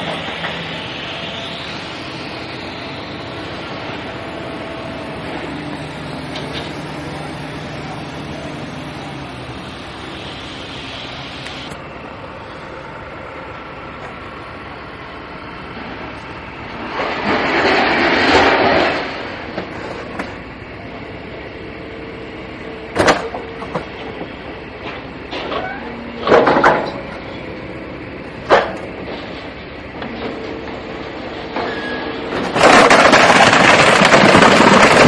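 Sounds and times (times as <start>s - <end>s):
moving vehicle rumble: 0.0s - 35.0s.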